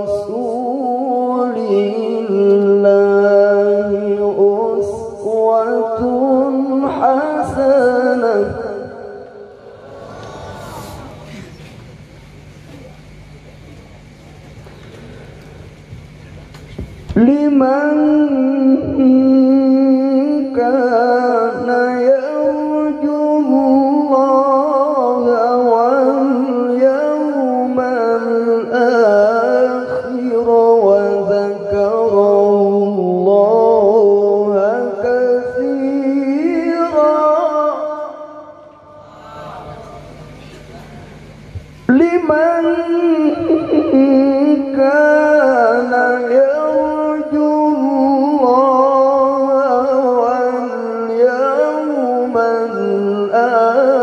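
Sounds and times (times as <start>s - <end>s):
man reciting melodically: 0.0s - 9.6s, 17.1s - 40.1s, 41.9s - 54.0s.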